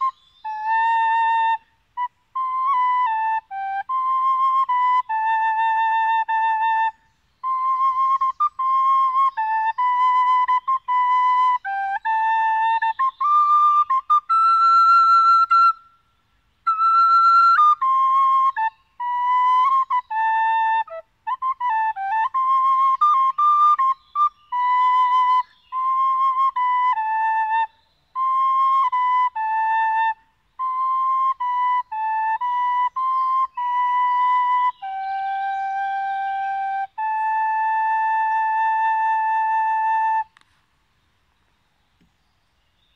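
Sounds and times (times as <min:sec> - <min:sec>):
solo flute melody: 0:00.0 - 0:40.6.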